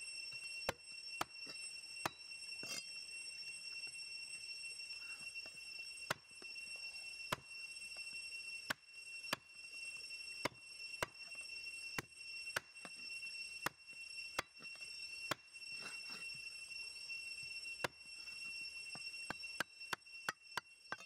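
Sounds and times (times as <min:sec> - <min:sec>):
steady high-pitched drone: 0:00.0 - 0:21.0.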